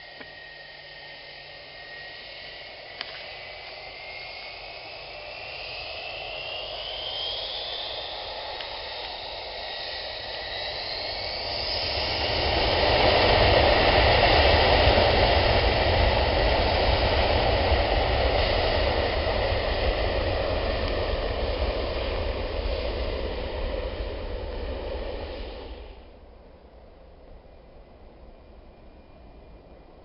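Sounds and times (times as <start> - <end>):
jet engines rushing with whine: 0.0 - 30.0.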